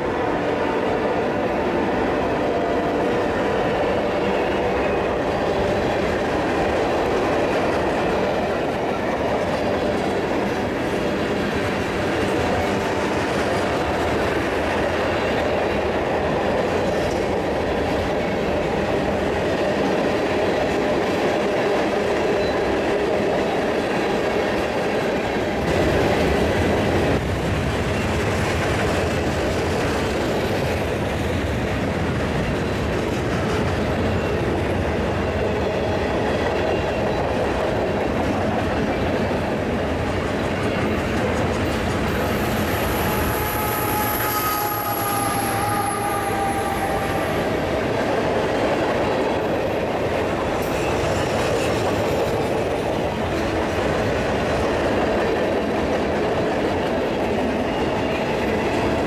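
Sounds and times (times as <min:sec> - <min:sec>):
freight train wheels clattering on track: 0:01.2 - 0:59.0.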